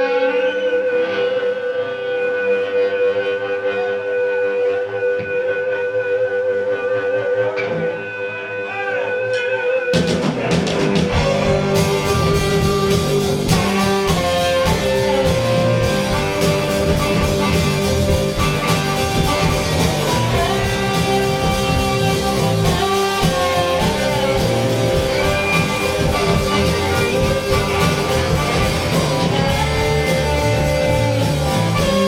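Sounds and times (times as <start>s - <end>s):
drums: 0.0s - 32.0s
live rock band playing: 0.0s - 32.0s.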